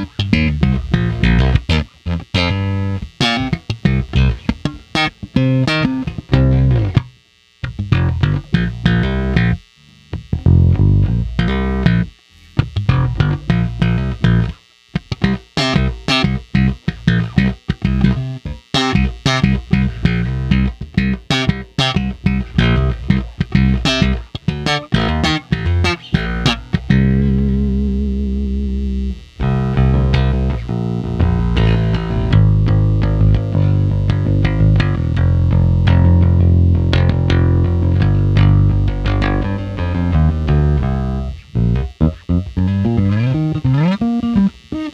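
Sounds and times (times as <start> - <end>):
bass guitar plucked notes: 0.0 - 44.9.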